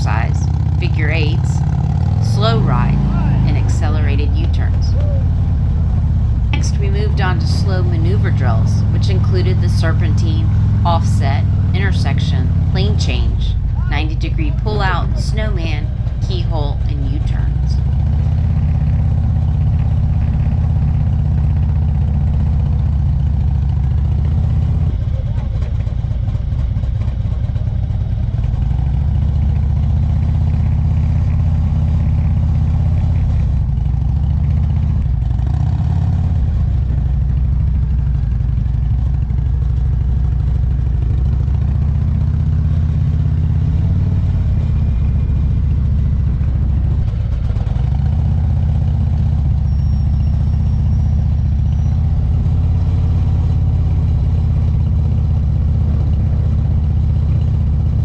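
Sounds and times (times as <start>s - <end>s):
motorcycle engine at low revs: 0.4s - 13.9s, 17.5s - 58.0s.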